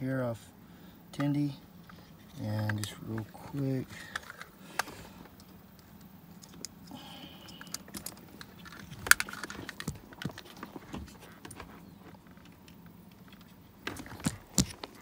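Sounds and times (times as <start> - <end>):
cables and plugs clicking: 2.6 - 15.0.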